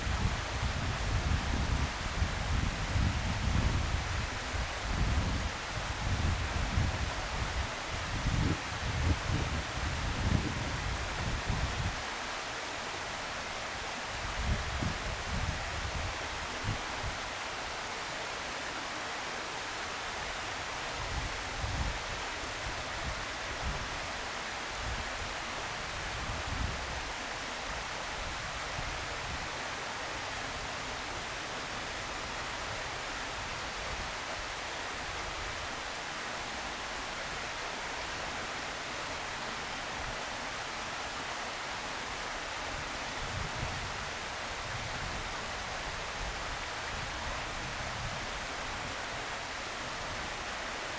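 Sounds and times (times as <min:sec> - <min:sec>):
outdoor hiss: 0:00.0 - 0:50.9.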